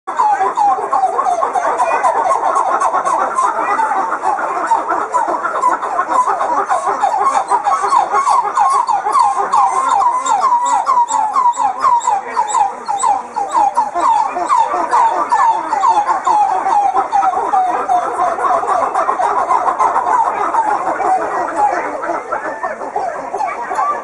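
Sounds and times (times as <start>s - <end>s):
monkeys singing: 0.1s - 24.0s.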